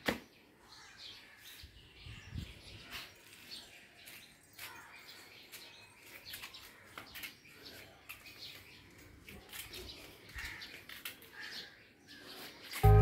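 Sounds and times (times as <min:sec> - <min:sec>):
faint birds chirping: 0:00.2 - 0:13.0.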